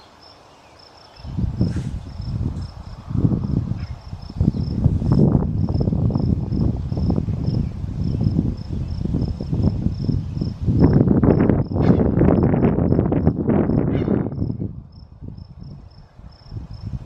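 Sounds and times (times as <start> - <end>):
cricket chirping: 0.0 - 17.0
low rumble: 1.3 - 15.9.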